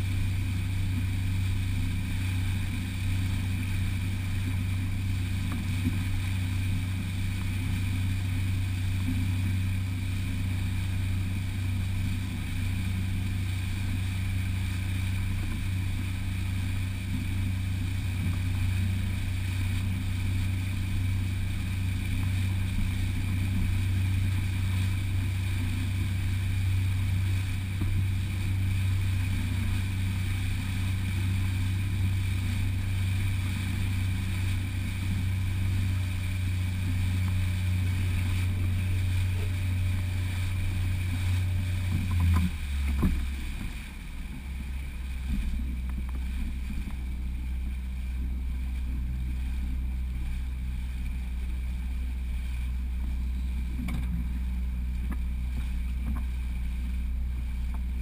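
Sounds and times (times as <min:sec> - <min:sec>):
outboard motor droning: 0:00.0 - 0:58.0.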